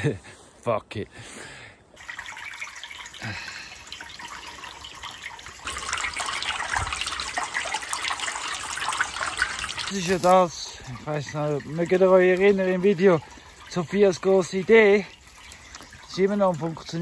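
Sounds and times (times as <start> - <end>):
brook water splashing and trickling: 1.9 - 17.0.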